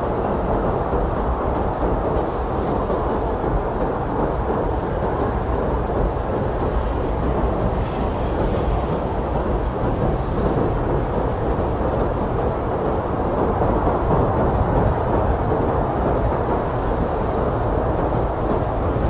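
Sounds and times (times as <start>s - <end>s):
blizzard wind blowing hard: 0.0s - 19.0s.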